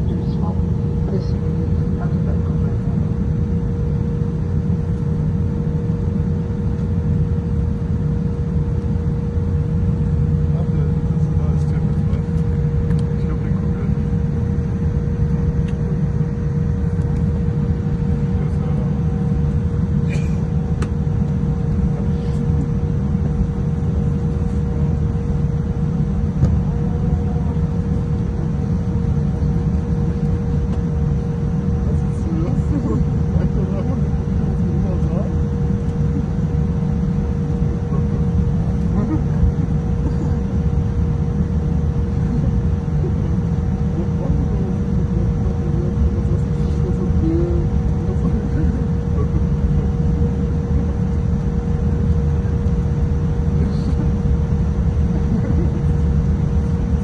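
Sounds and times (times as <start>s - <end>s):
constant hum: 0.0s - 57.0s
jet engines low rumble: 0.0s - 57.0s.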